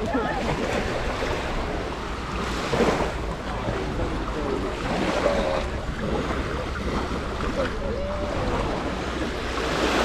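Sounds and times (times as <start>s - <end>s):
surf washing on beach: 0.0s - 10.0s.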